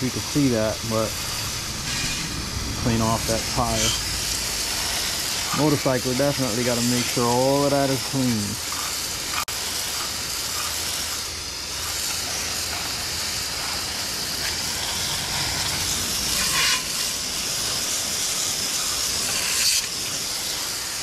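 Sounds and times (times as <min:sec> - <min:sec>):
hose spraying water: 0:00.0 - 0:21.0.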